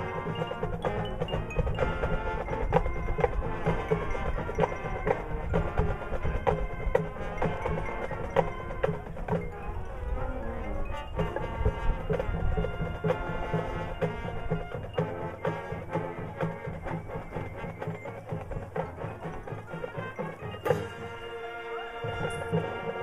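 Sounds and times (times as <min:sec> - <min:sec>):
drums beating: 0:00.0 - 0:09.9, 0:10.9 - 0:23.0
marching band playing: 0:00.0 - 0:23.0.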